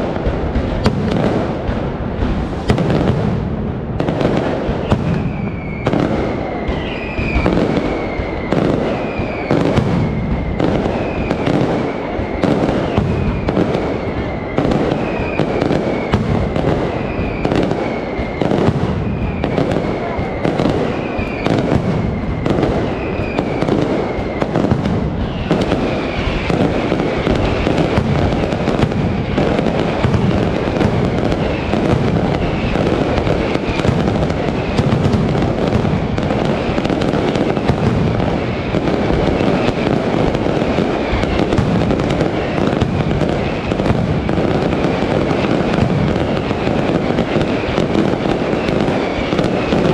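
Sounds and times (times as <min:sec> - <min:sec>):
firecrackers going off: 0:00.0 - 0:49.9.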